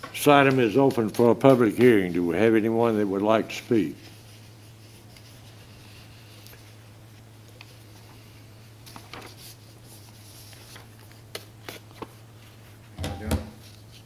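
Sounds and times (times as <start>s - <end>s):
low electrical hum: 0.0s - 14.0s
soft rustle: 1.2s - 12.9s.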